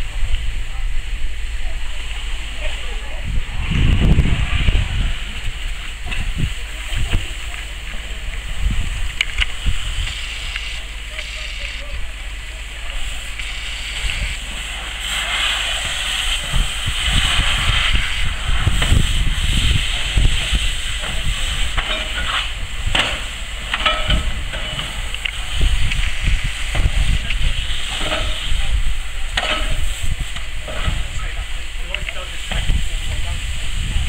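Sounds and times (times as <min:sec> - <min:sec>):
fire hose water spraying: 0:00.0 - 0:34.0
low rumble: 0:00.0 - 0:34.0.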